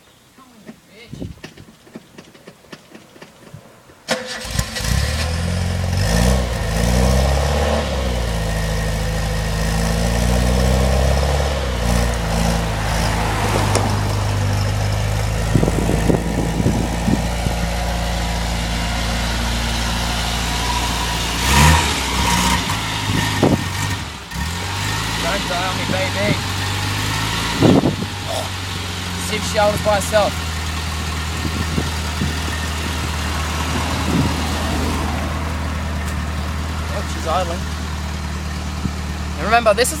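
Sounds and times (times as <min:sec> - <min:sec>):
petrol engine starting and revving: 0:04.0 - 0:40.0.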